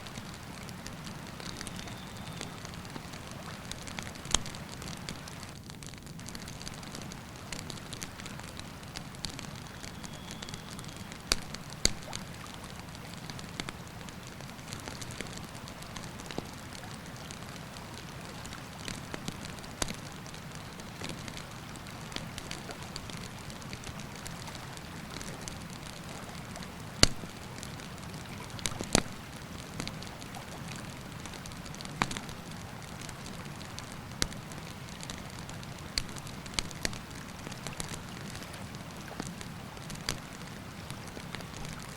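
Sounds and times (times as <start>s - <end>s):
campfire crackling and popping: 0.1s - 41.9s.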